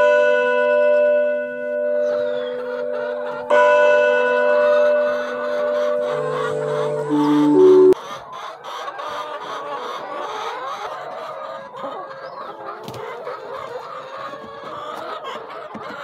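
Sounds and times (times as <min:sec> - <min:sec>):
hens clucking: 0:02.1 - 0:03.6, 0:04.5 - 0:16.0.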